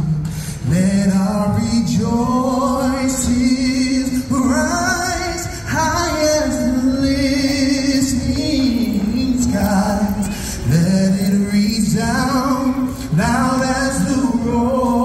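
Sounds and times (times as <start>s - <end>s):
amplified group singing: 0.7s - 15.0s.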